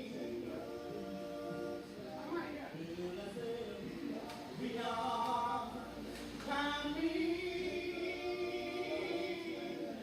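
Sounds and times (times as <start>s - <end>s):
person singing unaccompanied: 0.0s - 10.0s.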